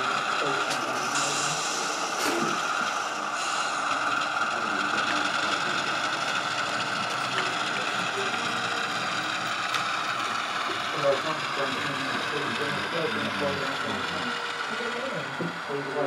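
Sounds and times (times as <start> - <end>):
hall chatter: 0.0 - 16.0
model train humming: 0.0 - 16.0.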